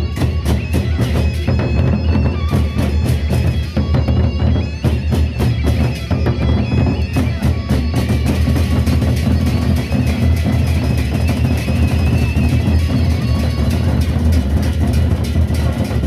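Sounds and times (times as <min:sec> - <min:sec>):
barrel drums beating fast: 0:00.0 - 0:16.0
held reedy tone: 0:00.0 - 0:16.0.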